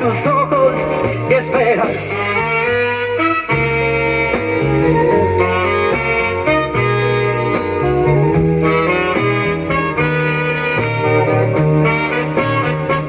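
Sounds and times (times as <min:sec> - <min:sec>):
bass line: 0:00.0 - 0:13.0
saxophone lead: 0:00.0 - 0:13.0.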